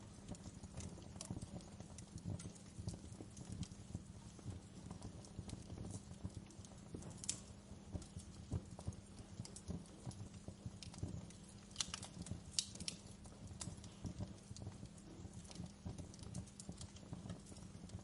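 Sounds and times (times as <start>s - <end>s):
sharp snaps of fire: 0.0s - 18.0s
wood fire crackling: 0.0s - 18.0s.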